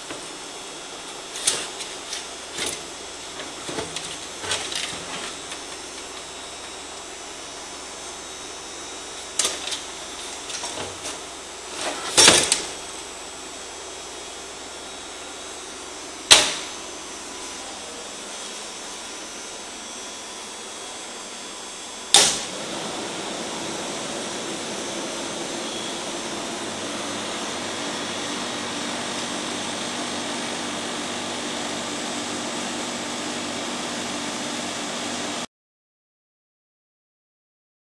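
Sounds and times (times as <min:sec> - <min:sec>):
dehumidifier humming: 0:00.0 - 0:35.4.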